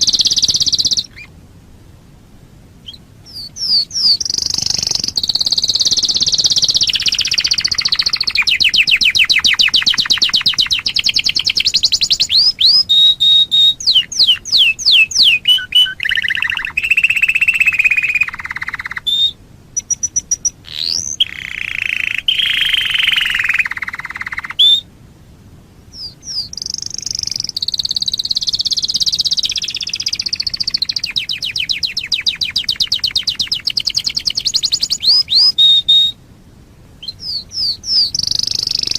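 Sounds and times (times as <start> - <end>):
canary singing fast trills: 0.0 - 1.3, 2.8 - 24.9, 25.9 - 36.2, 37.0 - 38.9.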